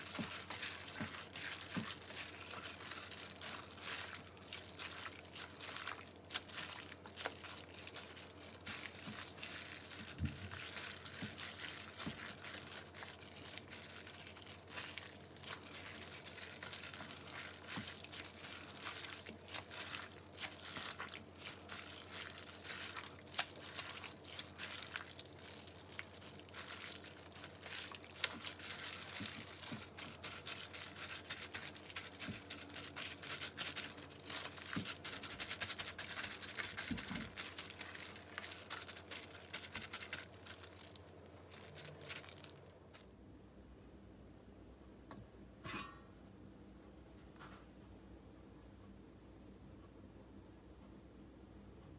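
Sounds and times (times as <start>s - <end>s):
wet squishing of gloved hand: 0.0s - 43.0s.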